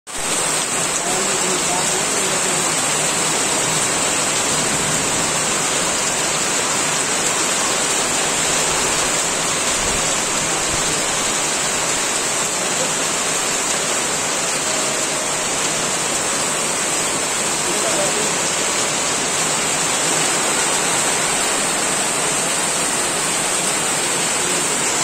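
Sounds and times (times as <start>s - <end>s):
heavy rain: 0.1s - 25.0s.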